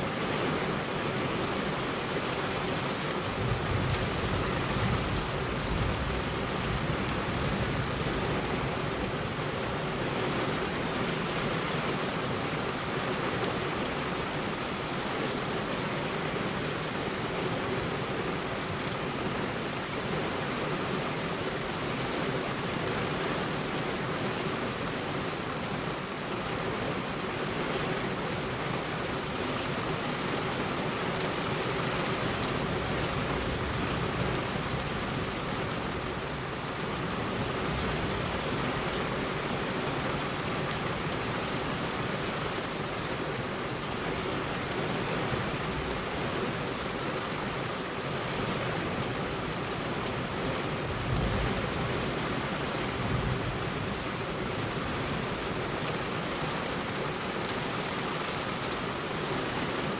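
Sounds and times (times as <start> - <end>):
heavy rain on a road: 0.0 - 59.9.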